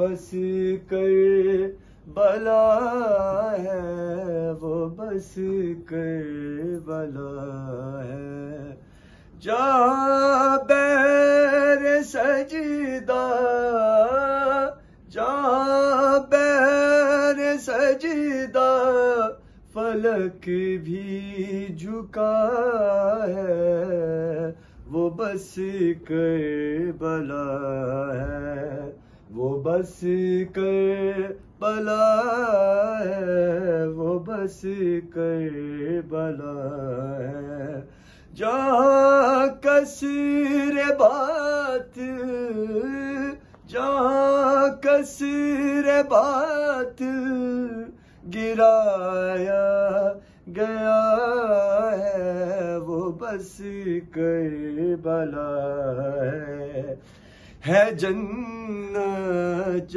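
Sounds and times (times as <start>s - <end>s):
man chanting: 0.0s - 8.8s, 9.4s - 57.0s, 57.6s - 59.9s.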